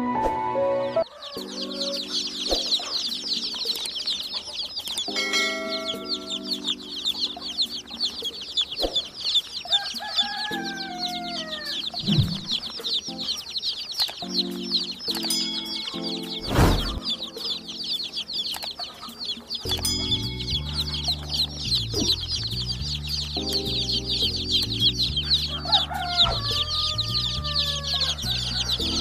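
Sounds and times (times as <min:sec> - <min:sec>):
faint music: 0:00.0 - 0:29.0
baby chicks peeping: 0:00.7 - 0:29.0.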